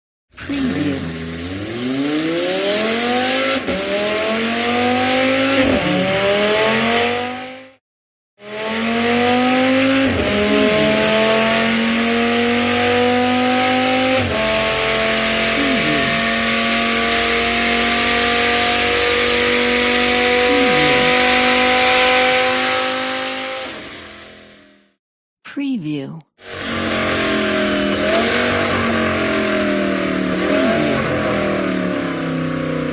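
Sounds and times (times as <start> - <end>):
racing car engine accelerating: 0.4 - 7.8, 8.4 - 24.9, 26.4 - 32.9.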